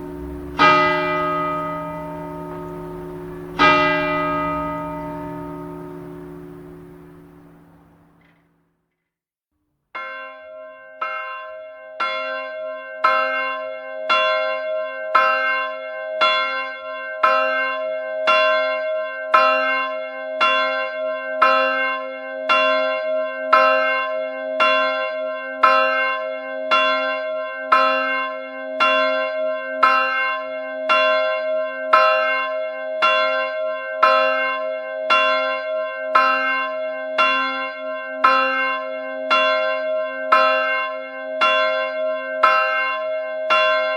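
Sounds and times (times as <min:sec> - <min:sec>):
church bell ringing: 0:00.0 - 0:08.3, 0:10.0 - 0:43.9.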